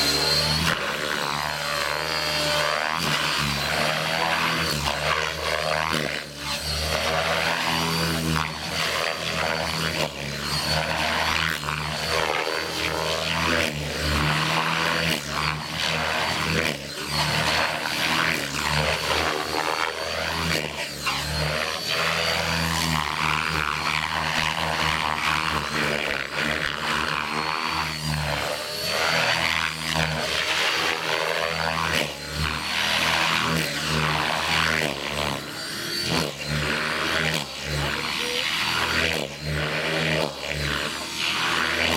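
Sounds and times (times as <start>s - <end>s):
electric motor whine: 0.0s - 41.9s
rotor blades swishing: 0.0s - 41.9s.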